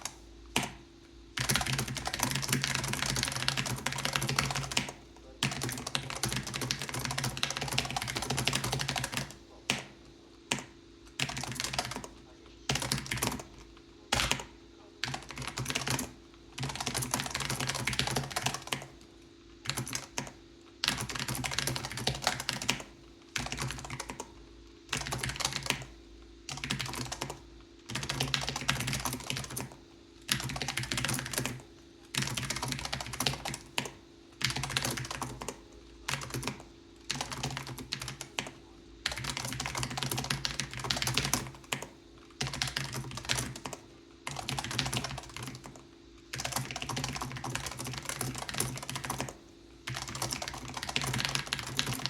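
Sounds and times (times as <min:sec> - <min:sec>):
mechanical keyboard typing: 0:00.0 - 0:52.0.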